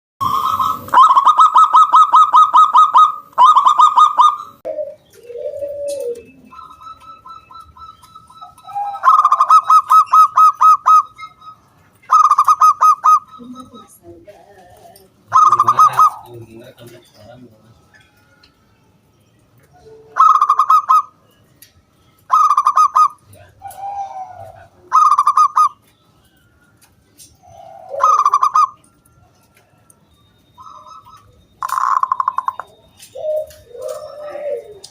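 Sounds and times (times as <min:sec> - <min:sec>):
dove cooing: 0:00.2 - 0:17.2, 0:19.7 - 0:21.3, 0:22.3 - 0:25.9, 0:27.2 - 0:29.3, 0:30.6 - 0:34.9.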